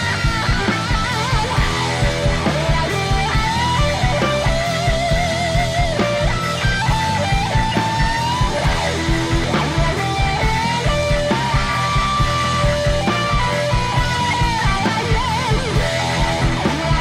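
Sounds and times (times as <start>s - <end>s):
lead guitar melody: 0.0s - 17.0s
steady drum beat: 0.0s - 17.0s.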